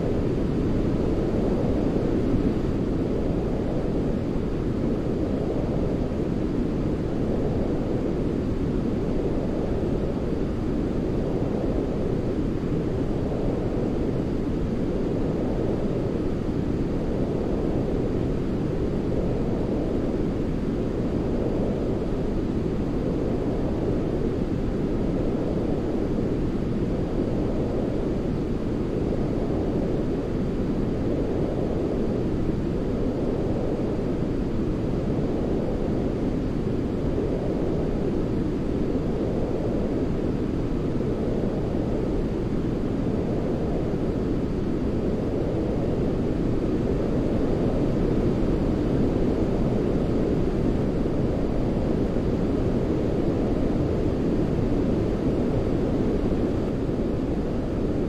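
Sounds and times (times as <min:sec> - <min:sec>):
deep rumbling white noise: 0:00.0 - 0:58.0.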